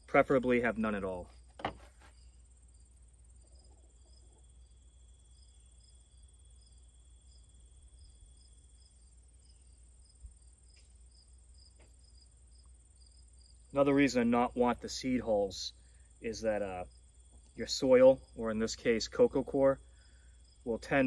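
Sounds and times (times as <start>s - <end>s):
faint insect trill: 0.1s - 21.0s
insect chirps: 1.2s - 21.0s.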